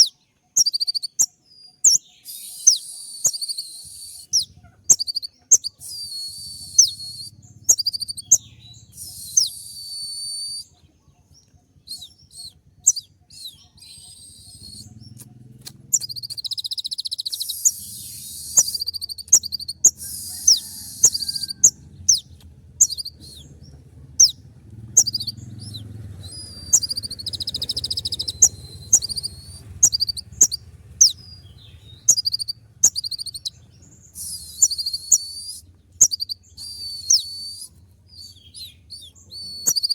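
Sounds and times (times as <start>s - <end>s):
bird singing sharp high notes: 0.0s - 10.8s, 11.8s - 39.9s
buzzy bird trills: 0.0s - 39.9s.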